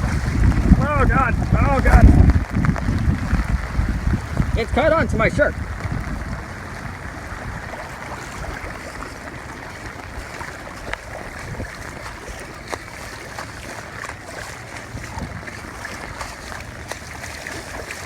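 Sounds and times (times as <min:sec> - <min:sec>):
heavy wind-driven rain: 0:00.0 - 0:18.0.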